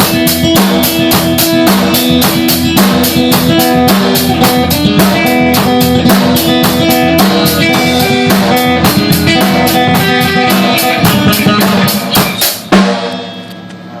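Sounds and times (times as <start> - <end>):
blues band playing: 0.0 - 13.3
quick cymbal beat: 0.0 - 13.5.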